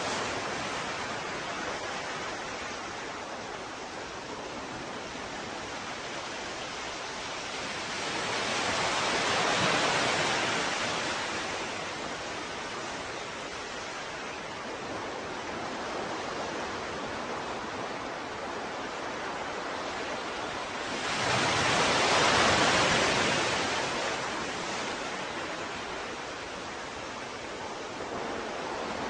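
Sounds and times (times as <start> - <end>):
ocean waves washing: 0.0 - 29.0.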